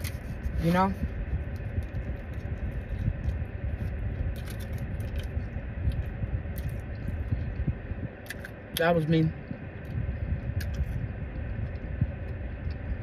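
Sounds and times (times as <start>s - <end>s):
person chewing food: 0.0s - 8.6s, 9.5s - 13.0s
car interior rumble: 0.0s - 13.0s.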